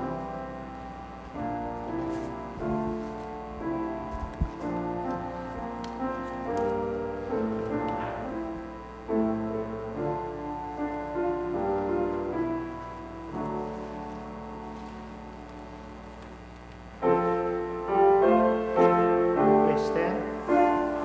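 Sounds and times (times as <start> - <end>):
piano playing a slow hymn: 0.0 - 21.0.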